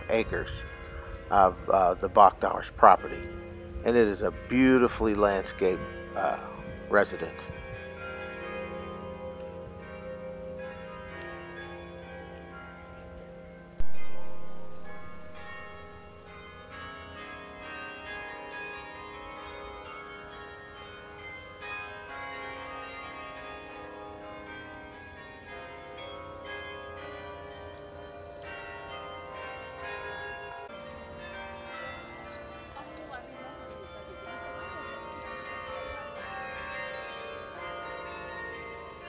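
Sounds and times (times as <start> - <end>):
loud low bell note: 0.0 - 38.8
carillon bells melody: 0.0 - 39.0.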